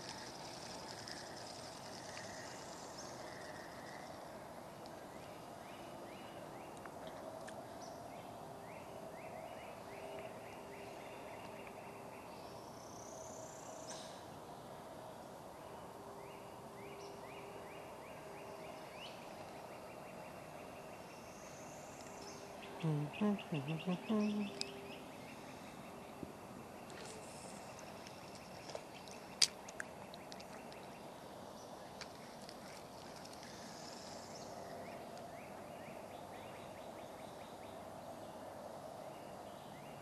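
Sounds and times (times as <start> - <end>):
steady background noise: 0.0 - 40.0.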